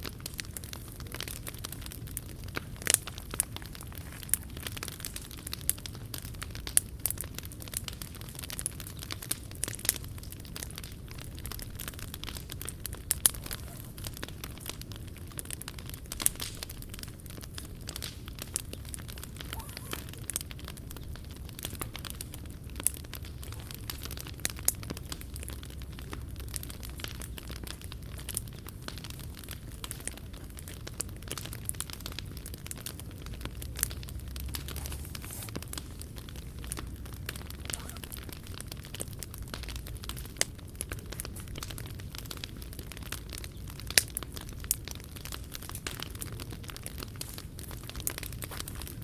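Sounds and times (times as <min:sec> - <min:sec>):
low fire rumble: 0:00.0 - 0:49.0
sharp pops and snaps: 0:00.0 - 0:49.0
wood fire crackling: 0:00.0 - 0:49.0.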